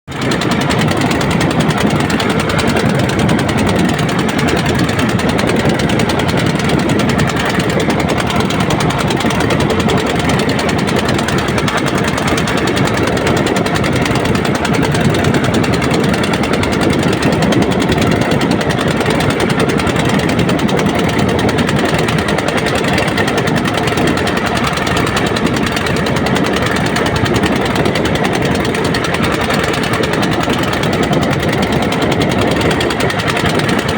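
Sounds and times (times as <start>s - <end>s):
boat engine with rapid knocking: 0.1s - 33.9s.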